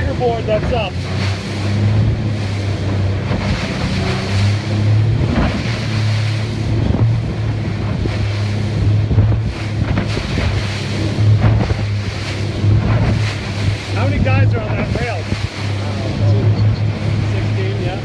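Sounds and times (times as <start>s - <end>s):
boat engine drone: 0.0s - 18.0s
water washing along hull: 0.0s - 18.0s
wind buffeting microphone: 0.0s - 18.0s.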